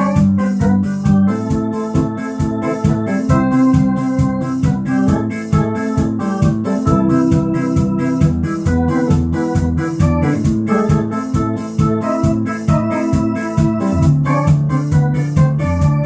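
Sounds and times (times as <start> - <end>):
bass line: 0.0 - 16.0
drum machine beat: 0.0 - 16.0
electronic organ melody: 0.0 - 16.0.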